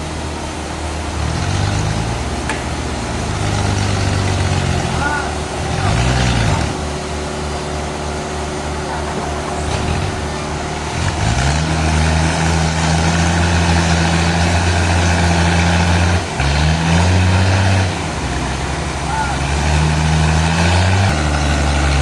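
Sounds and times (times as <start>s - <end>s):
sawmill machinery engine humming: 0.0s - 22.0s.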